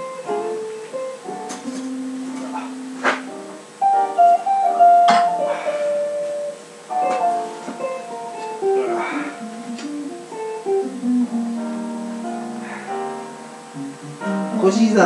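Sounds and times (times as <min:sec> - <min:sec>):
guitar plucking and strumming: 0:00.0 - 0:15.0.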